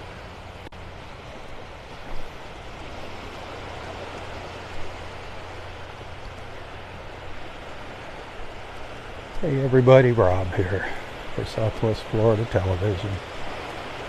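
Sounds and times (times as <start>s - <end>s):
surf washing over shallows: 0.0s - 14.0s.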